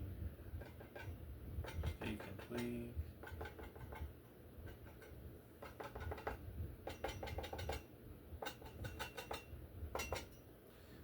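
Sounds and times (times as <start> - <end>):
palette knife tapping on metal: 0.6 - 10.4.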